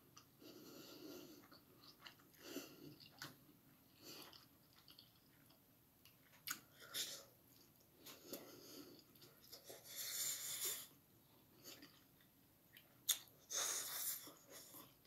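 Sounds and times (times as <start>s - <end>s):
person chewing noodles: 0.1s - 15.0s.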